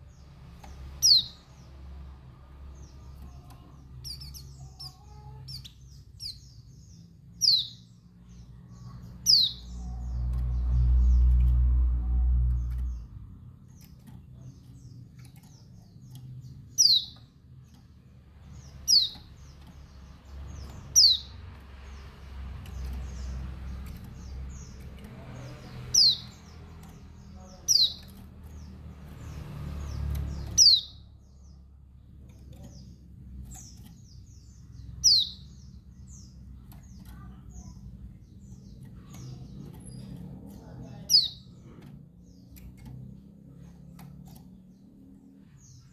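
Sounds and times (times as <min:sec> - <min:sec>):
faint high bird chirps: 0:02.8 - 0:45.9.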